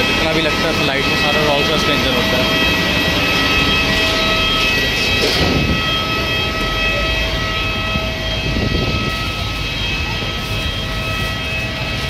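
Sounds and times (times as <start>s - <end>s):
jet engine rushing and whining: 0.0s - 12.0s.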